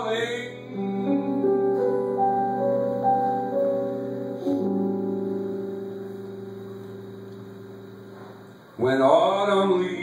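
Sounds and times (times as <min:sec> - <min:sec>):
keyboard playing sustained chords: 0:00.0 - 0:08.8.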